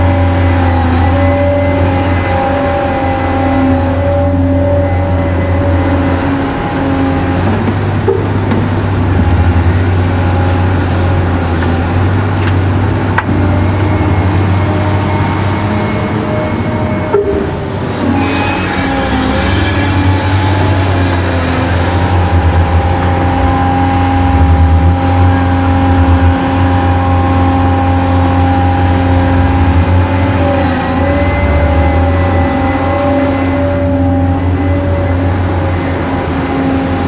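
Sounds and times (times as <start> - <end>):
diesel engine drone: 0.0 - 37.0.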